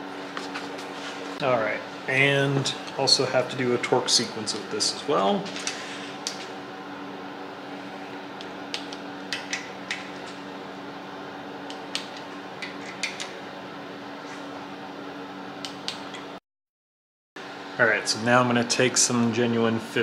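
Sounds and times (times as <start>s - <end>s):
steady hum: 0.0s - 16.4s, 17.4s - 20.0s.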